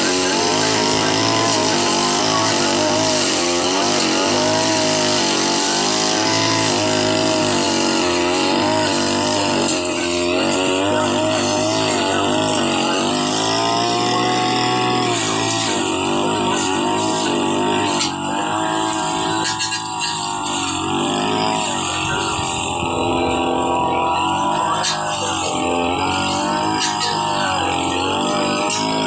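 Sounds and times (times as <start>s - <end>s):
brush cutter engine running: 0.0s - 29.0s.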